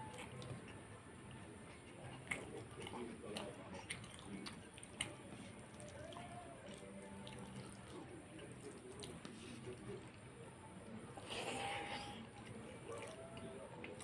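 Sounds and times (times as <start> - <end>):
faint wet squishing: 0.0 - 14.0.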